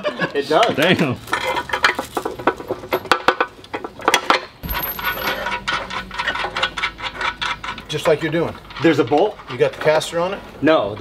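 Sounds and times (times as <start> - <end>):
metal hardware clinking: 1.3 - 11.0.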